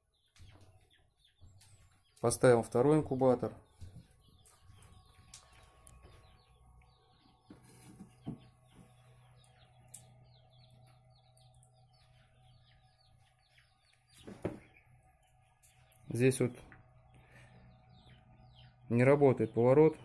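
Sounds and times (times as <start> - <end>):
chicks peeping: 0.0 - 20.0
low steady hum: 1.6 - 20.0.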